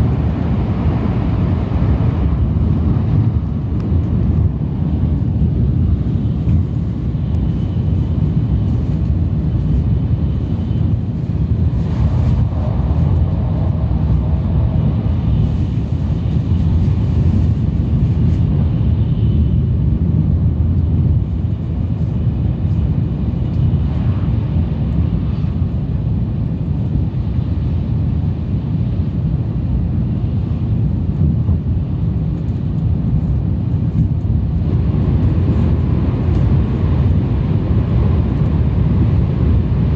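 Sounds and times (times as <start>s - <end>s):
train rumble and hiss from inside: 0.0s - 39.9s.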